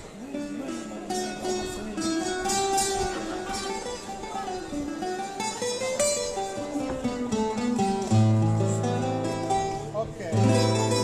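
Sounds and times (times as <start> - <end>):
acoustic guitar: 0.0 - 11.0.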